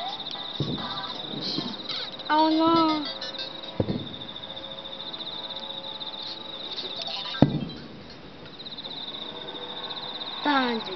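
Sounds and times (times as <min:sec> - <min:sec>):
firework bang: 0:00.0 - 0:10.9
insects trilling: 0:00.0 - 0:10.9.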